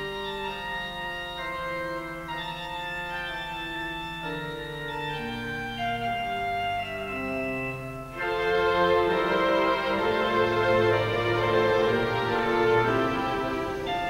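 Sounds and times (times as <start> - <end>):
organ playing slow sustained chords: 0.0 - 14.0.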